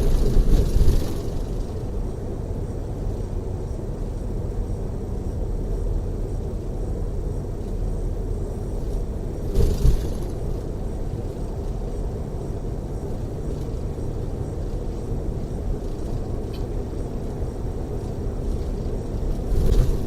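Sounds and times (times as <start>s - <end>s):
coach engine and tyre rumble: 0.0s - 20.0s.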